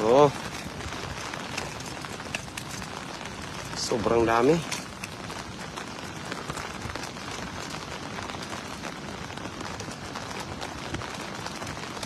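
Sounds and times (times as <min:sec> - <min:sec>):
rain hissing on wet concrete: 0:00.0 - 0:12.0.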